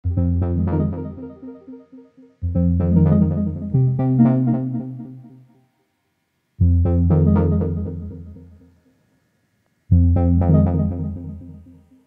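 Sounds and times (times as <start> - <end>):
instrumental background music: 0.0 - 5.6, 6.6 - 8.7, 9.9 - 12.0.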